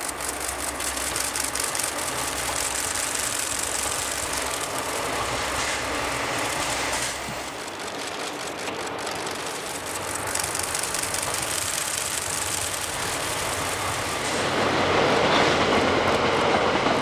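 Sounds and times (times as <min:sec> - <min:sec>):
rapid clicking: 0:00.0 - 0:14.6
train coaches rolling by: 0:00.0 - 0:17.0.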